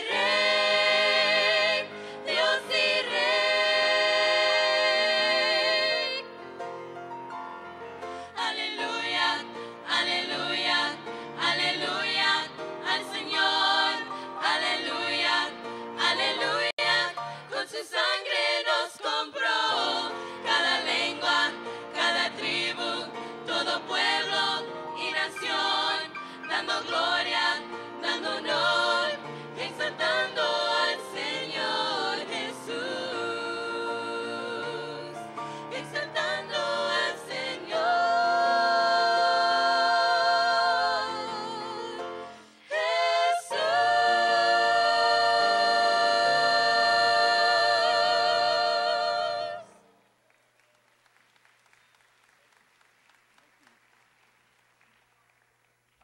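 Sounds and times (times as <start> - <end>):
women singing in harmony: 0.0 - 6.5, 8.2 - 50.0.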